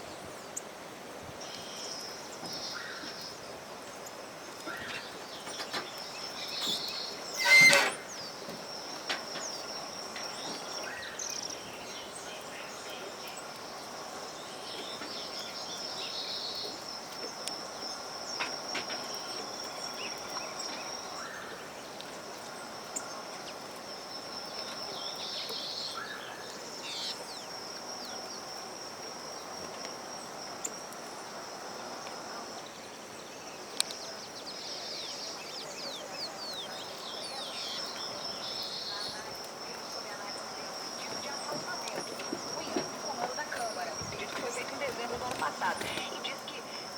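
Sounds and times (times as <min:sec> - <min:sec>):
high insect trill: 0:00.0 - 0:46.9
small birds chirping: 0:00.0 - 0:46.9.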